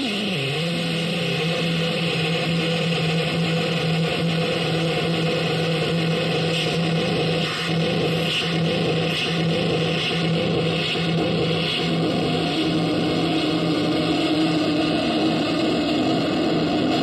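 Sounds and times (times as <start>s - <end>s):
low droning tone: 0.0s - 17.0s.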